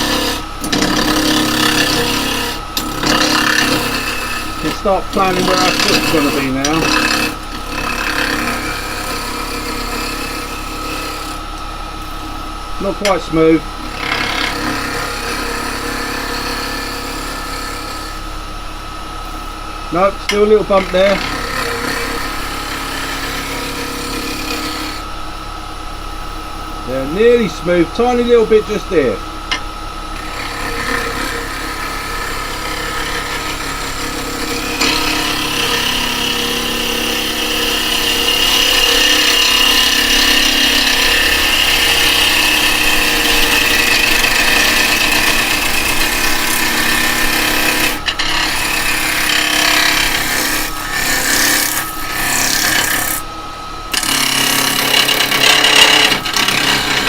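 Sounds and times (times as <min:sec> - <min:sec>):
chisel scraping spinning wood: 0:00.0 - 0:18.4, 0:19.1 - 0:25.2, 0:26.4 - 0:57.0
lathe motor hum: 0:00.0 - 0:57.0.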